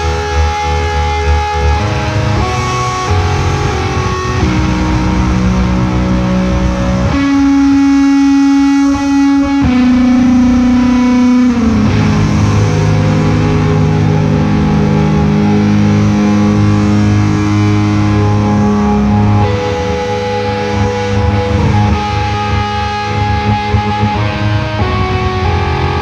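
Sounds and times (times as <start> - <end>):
loud bright guitar note: 0.0 - 26.0
slow electric guitar music: 0.0 - 26.0.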